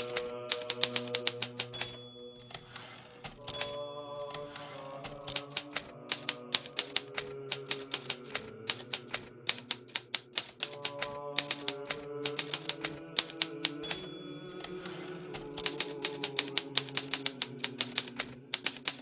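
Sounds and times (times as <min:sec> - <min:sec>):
typewriter key strikes: 0:00.0 - 0:19.0.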